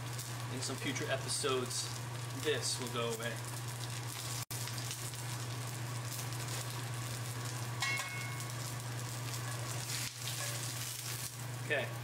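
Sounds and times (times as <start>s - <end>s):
steak sizzling in a skillet: 0.0s - 11.8s.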